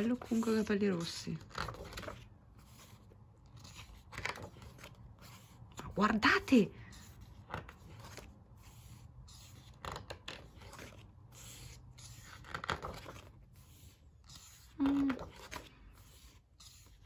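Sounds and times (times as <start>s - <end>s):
book pages rustling: 0.0s - 17.0s.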